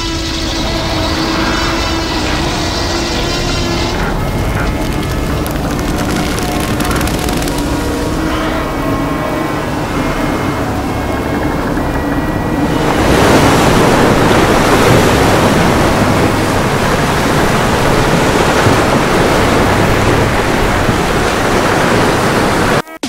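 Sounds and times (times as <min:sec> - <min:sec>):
rushing churning water: 0:00.0 - 0:22.9.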